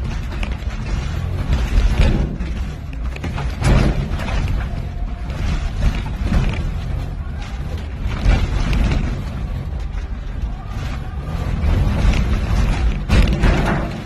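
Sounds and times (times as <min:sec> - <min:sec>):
car engine running hard: 0:00.0 - 0:14.0
knocks and rattles: 0:00.0 - 0:14.0.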